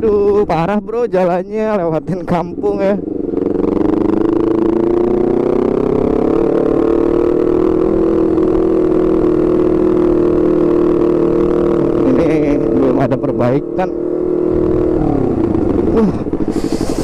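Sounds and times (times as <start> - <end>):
motorcycle exhaust at low revs: 1.5 - 17.0.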